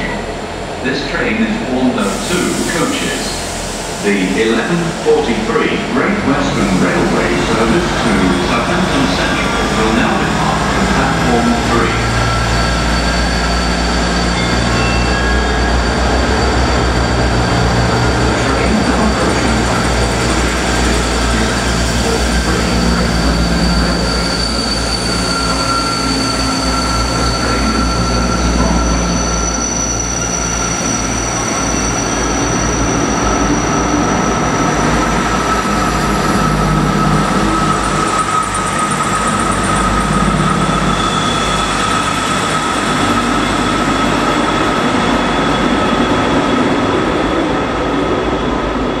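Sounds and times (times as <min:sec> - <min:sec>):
diesel train engine rumble: 0:00.0 - 0:49.0
train wheels on rails: 0:02.0 - 0:49.0
high-pitched wheel squeal: 0:07.3 - 0:47.0.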